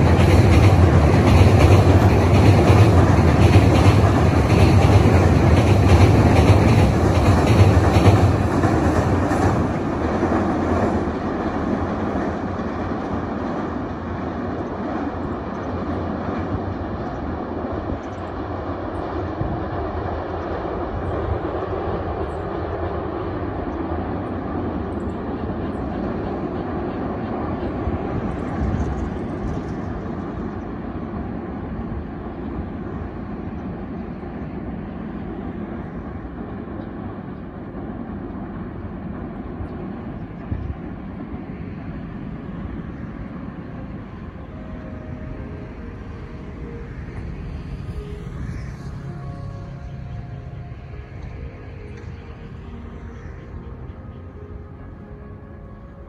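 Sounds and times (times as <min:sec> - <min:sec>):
freight train rumbling across bridge: 0:00.0 - 0:56.0.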